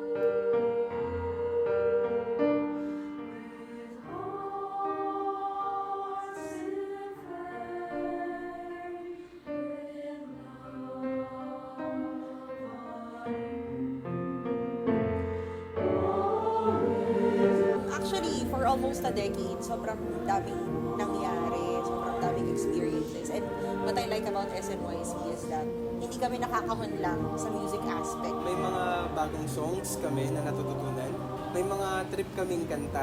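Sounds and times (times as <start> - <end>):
choir singing: 0.0 - 33.0
piano accompaniment: 0.0 - 33.0.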